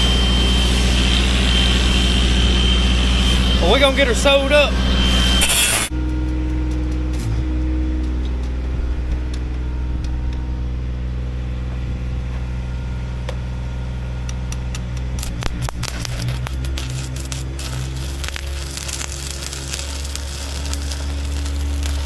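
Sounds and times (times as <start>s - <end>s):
diesel engine running steadily: 0.0s - 22.0s
sharp crackles: 0.0s - 22.0s.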